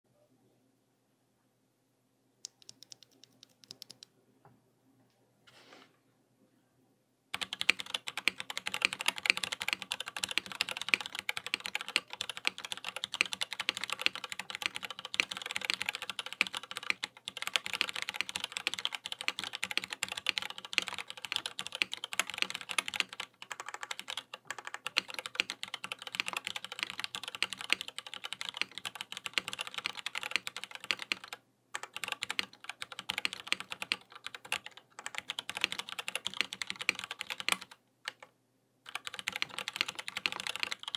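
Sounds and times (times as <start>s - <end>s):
mechanical keyboard typing: 2.5s - 4.1s, 7.4s - 38.3s, 38.9s - 40.9s.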